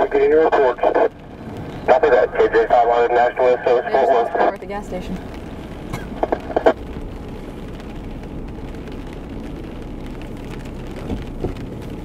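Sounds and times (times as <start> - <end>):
vehicle cabin rumble: 0.0 - 12.0.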